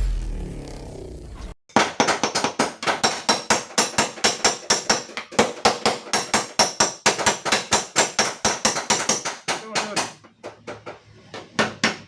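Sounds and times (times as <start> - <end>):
hammer beating metal panel: 1.7 - 12.0.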